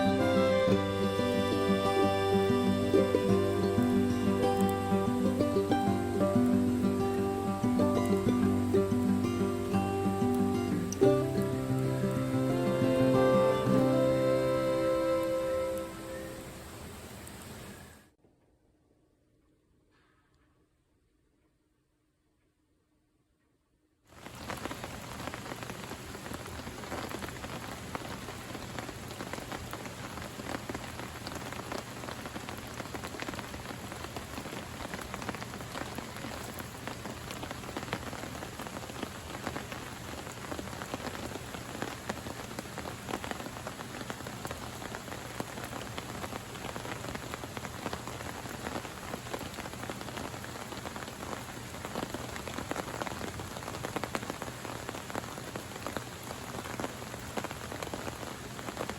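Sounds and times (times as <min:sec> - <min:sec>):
rain drops hitting: 0:00.0 - 0:18.1, 0:24.1 - 0:58.9
rain hiss: 0:00.0 - 0:18.1, 0:24.1 - 0:58.9.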